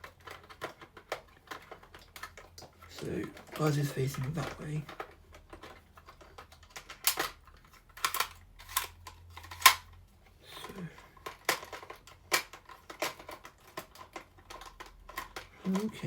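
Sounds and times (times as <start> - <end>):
plastic action figure clicks: 0.0 - 10.0, 10.6 - 16.0.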